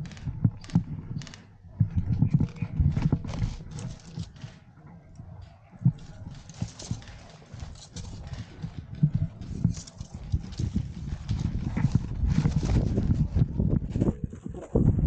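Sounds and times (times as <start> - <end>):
gun and gear knocking and scuffing: 0.0 - 4.7, 5.9 - 13.5.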